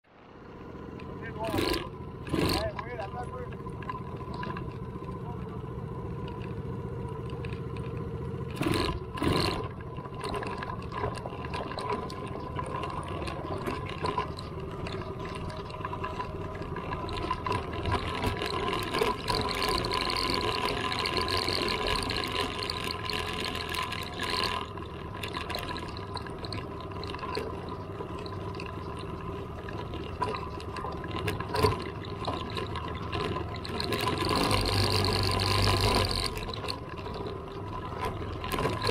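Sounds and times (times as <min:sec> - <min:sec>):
off-road vehicle engine running: 0:00.0 - 0:38.9
tyres on gravel: 0:00.2 - 0:38.9.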